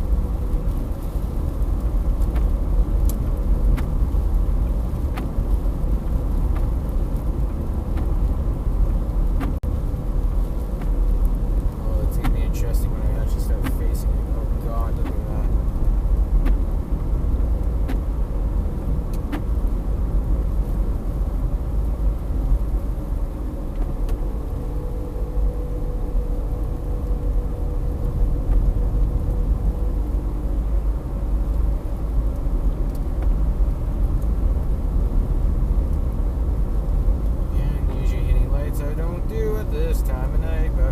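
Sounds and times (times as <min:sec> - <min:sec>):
road and engine rumble: 0:00.0 - 0:40.9.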